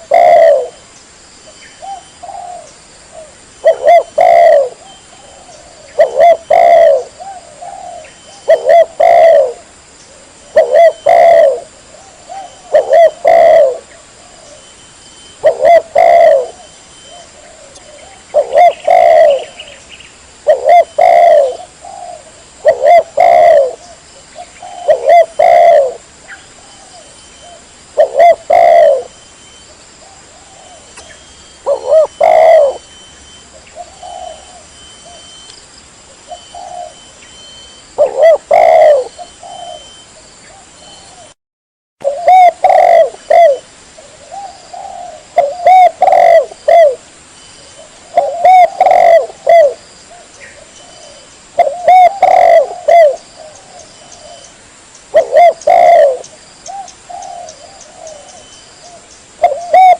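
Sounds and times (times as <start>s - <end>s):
dove cooing: 0.0s - 0.8s, 1.8s - 19.8s, 20.4s - 35.5s, 36.1s - 41.4s, 42.0s - 47.0s, 47.6s - 54.5s, 55.1s - 59.9s
faint steady hiss: 0.0s - 41.4s, 42.0s - 59.9s.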